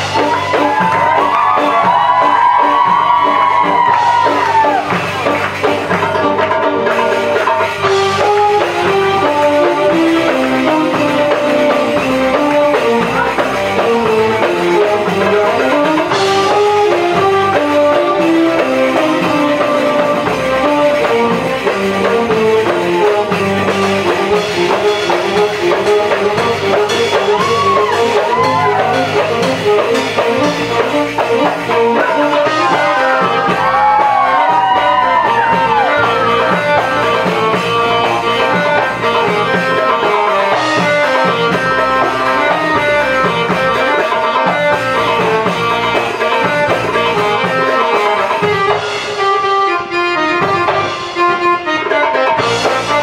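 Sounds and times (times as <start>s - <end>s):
percussion beat: 0.0s - 49.5s, 50.3s - 53.0s
electronic keyboard dance music: 0.0s - 53.0s.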